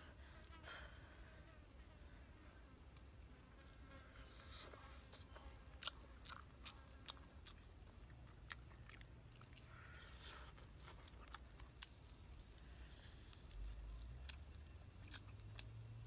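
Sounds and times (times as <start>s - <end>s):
biting and chewing: 2.9s - 16.0s.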